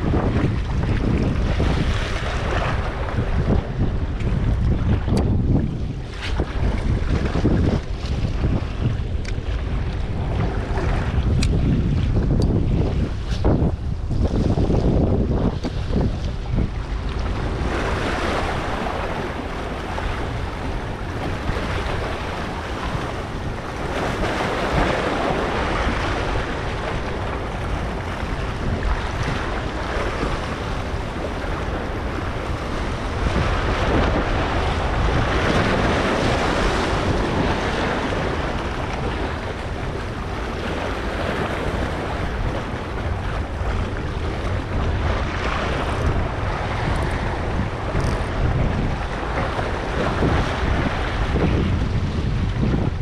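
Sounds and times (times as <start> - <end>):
waves washing against rocks: 0.0 - 53.0
wind buffeting microphone: 0.0 - 53.0.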